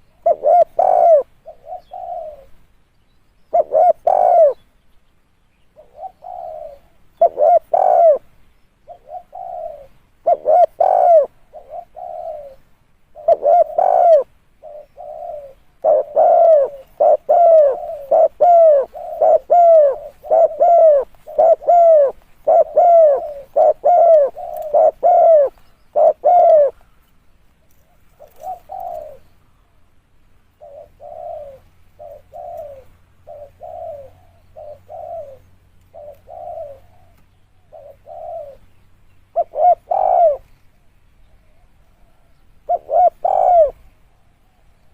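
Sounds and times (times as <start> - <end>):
dove cooing: 0.0 - 2.6, 3.5 - 4.6, 5.8 - 27.0, 27.6 - 29.3, 30.6 - 38.7, 39.3 - 40.6, 41.4 - 44.9.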